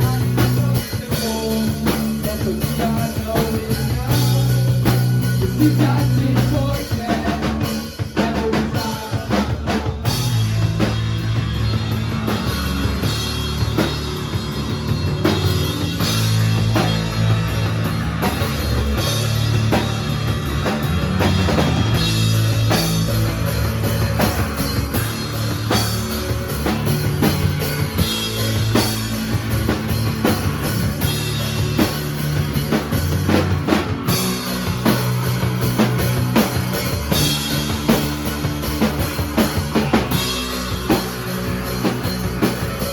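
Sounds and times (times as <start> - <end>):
bass line: 0.0 - 42.9
drum kit hits: 0.0 - 42.9
live rock band playing: 0.0 - 42.9.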